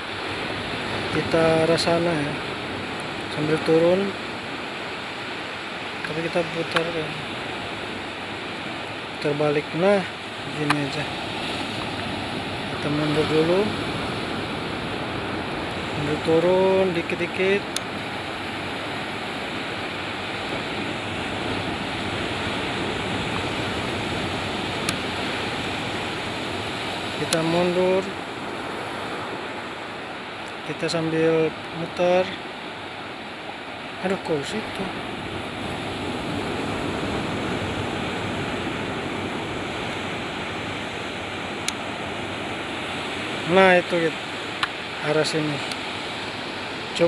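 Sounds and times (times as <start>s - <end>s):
ocean surf rushing: 0.0s - 47.0s.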